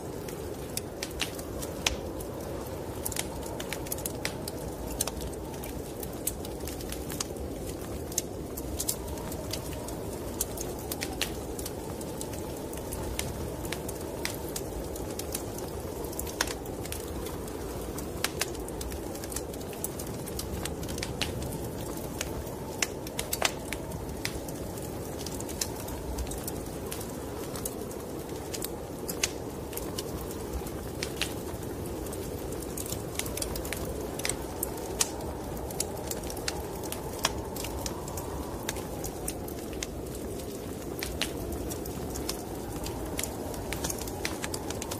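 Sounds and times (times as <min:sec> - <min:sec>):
low rush of wind: 0:00.0 - 0:44.9
wood fire crackling and popping: 0:00.0 - 0:44.9.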